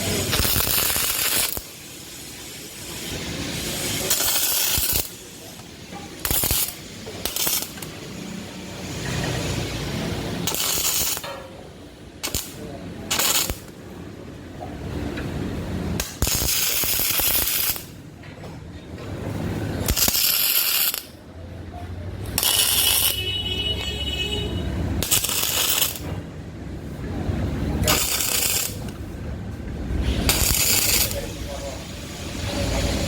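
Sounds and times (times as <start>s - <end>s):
welding arc crackling: 0.0s - 13.9s, 14.8s - 18.2s, 19.3s - 21.2s, 22.1s - 26.3s, 27.0s - 33.0s.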